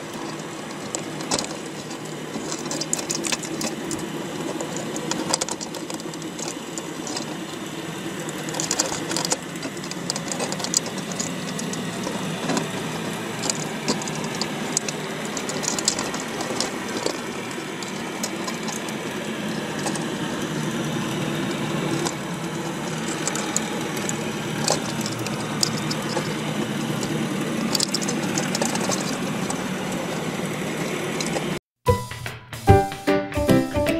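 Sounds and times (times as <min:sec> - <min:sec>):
underwater crab clicking: 0:00.0 - 0:31.6.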